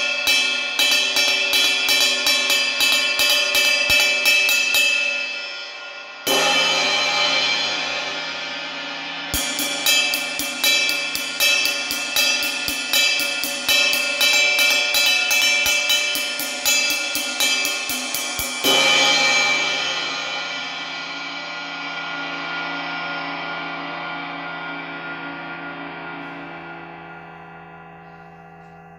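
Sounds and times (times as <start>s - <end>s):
cymbal wash ringing: 0.0s - 28.9s
ride cymbal struck with drumstick: 0.0s - 28.9s.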